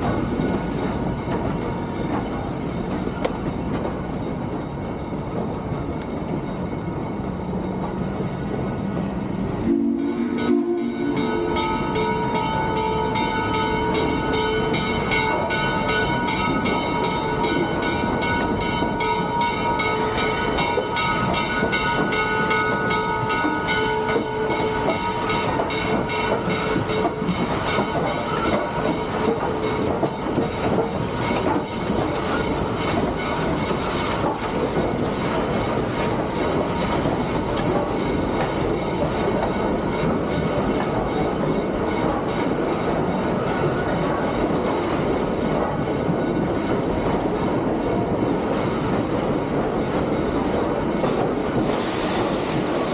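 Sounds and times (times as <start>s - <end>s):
train wheels clattering: 0.0s - 52.9s.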